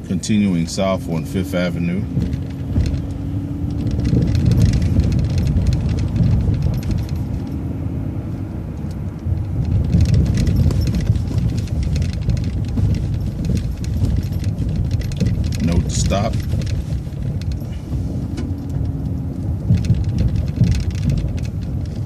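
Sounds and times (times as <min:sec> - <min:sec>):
bus engine and road rumble: 0:00.0 - 0:22.0
loose fittings rattling: 0:01.6 - 0:07.7, 0:08.8 - 0:22.0.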